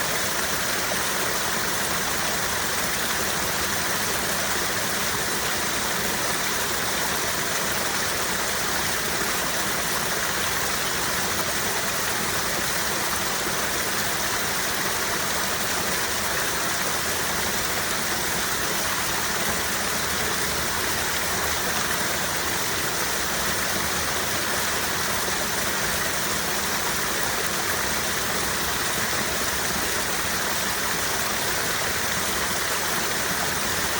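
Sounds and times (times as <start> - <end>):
stream flowing over rocks: 0.0 - 33.9.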